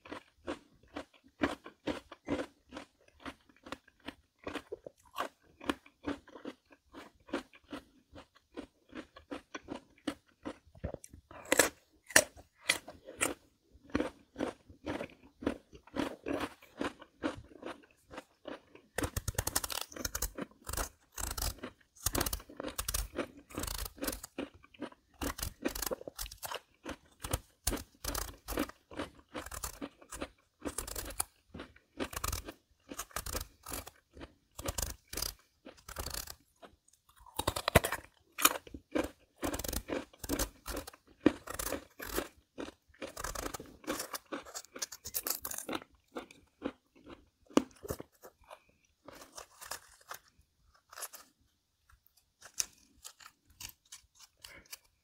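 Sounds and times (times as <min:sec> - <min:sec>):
melon crunching: 0:00.0 - 0:51.4, 0:52.4 - 0:55.0.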